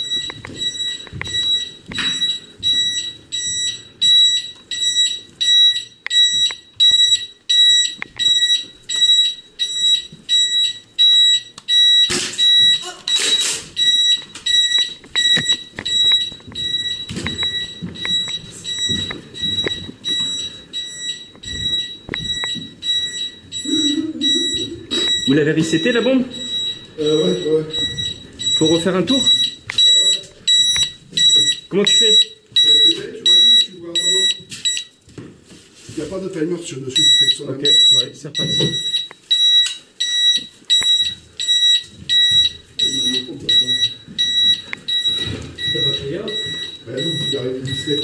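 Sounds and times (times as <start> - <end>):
high electronic beeps: 0.0 - 35.0, 36.9 - 48.0.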